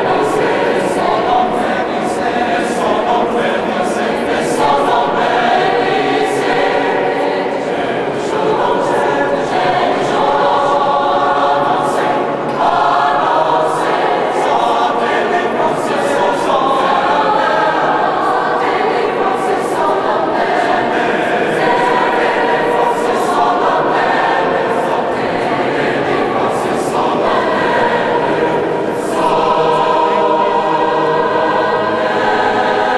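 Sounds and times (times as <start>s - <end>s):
mixed choir singing slow chords: 0.0s - 32.9s.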